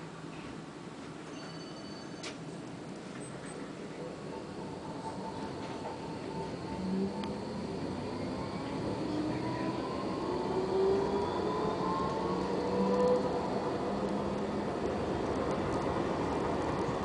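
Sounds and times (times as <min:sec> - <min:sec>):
tram running rumble: 0:00.0 - 0:17.0
tram motor whine: 0:01.3 - 0:17.0.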